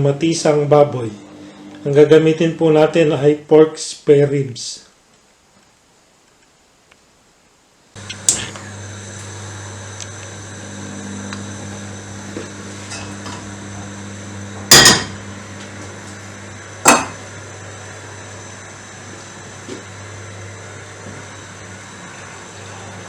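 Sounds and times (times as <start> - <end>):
steady low hum: 0.0 - 3.5, 7.9 - 23.0.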